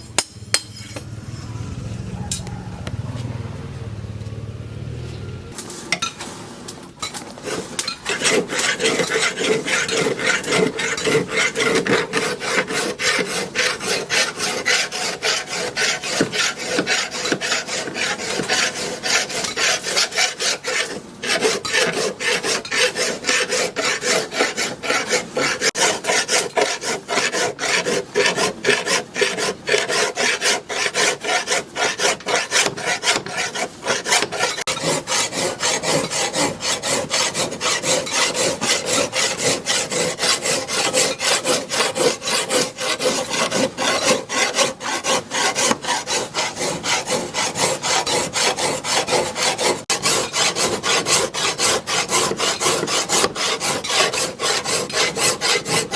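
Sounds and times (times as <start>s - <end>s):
file scraping on steel blade: 0.0s - 1.1s, 5.8s - 55.9s.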